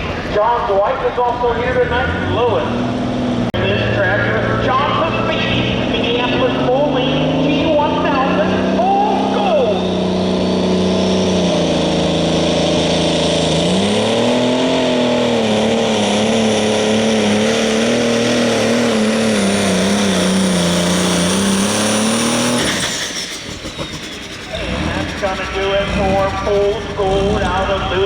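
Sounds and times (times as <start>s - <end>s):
tractor engine under load: 0.0s - 28.0s.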